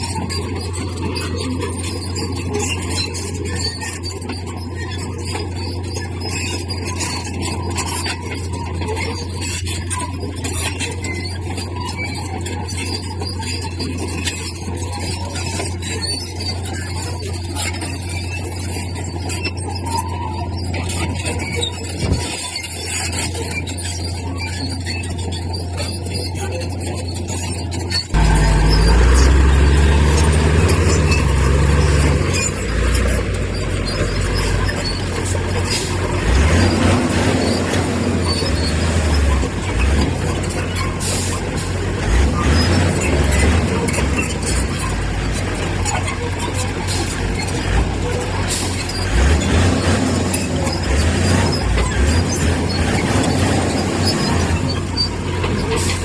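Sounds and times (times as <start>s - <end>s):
bulldozer engine humming: 0.0s - 56.0s
metallic scraping and clatter: 0.0s - 56.0s.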